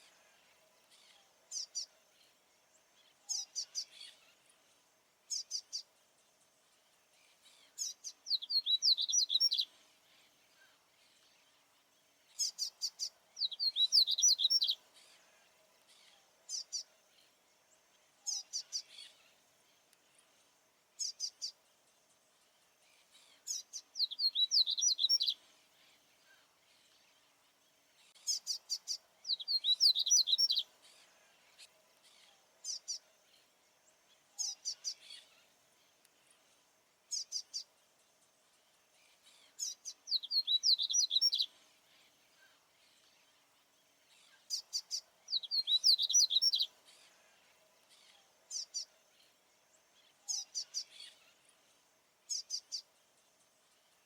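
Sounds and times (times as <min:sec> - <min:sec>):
seedeater bird twittering song: 0:00.9 - 0:15.2, 0:15.9 - 0:19.4, 0:20.9 - 0:27.2, 0:27.8 - 0:35.5, 0:36.2 - 0:37.7, 0:38.8 - 0:54.0.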